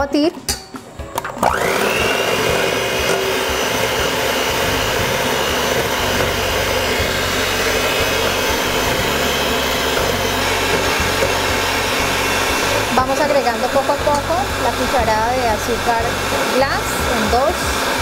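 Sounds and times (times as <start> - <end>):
electric hand mixer whining: 1.3 - 18.0.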